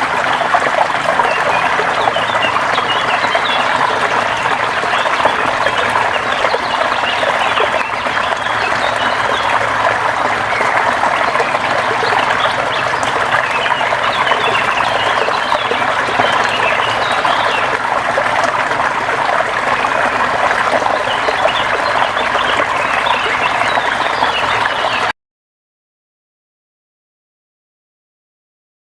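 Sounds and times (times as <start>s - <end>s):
river water flowing: 0.0s - 25.1s.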